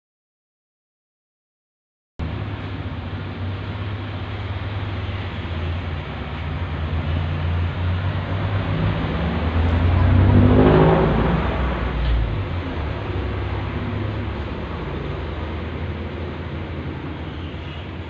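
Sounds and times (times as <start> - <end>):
vehicle engine running: 2.2 - 18.0.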